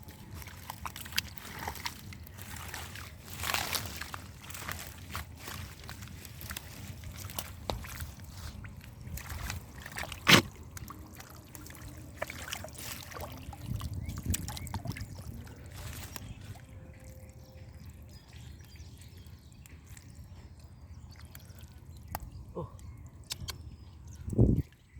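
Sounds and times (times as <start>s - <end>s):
small splashes: 0.0s - 22.3s
hands squelching through mud: 0.0s - 23.6s.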